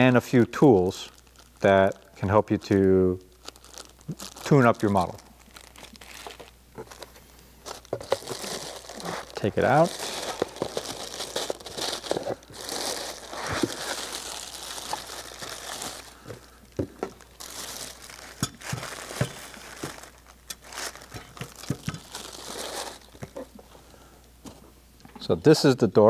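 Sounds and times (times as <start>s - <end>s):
plastic bag crinkling: 0.0s - 23.6s.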